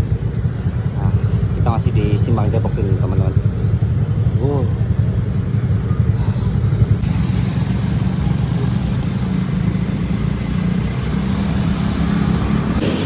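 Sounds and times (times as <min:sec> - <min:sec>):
motorcycle traffic rumble: 0:00.0 - 0:13.0.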